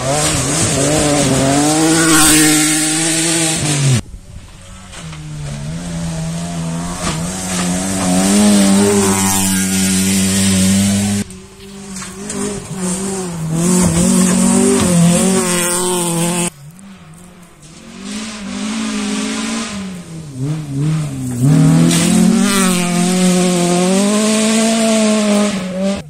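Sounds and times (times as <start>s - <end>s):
rally car approaching: 0.0s - 26.0s
rally car engines revving: 0.0s - 26.0s.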